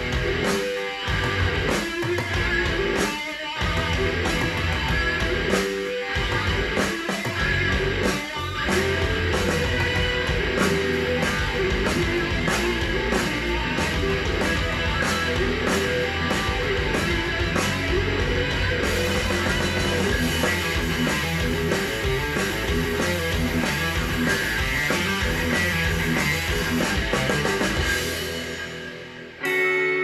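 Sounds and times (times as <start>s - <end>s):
steady drum beat: 0.0s - 29.3s
bass: 0.0s - 30.0s
rock music through speakers: 0.0s - 30.0s.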